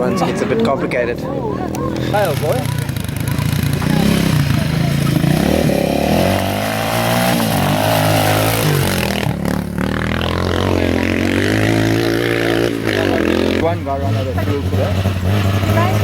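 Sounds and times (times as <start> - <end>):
car engine revving unevenly: 0.7 - 16.0.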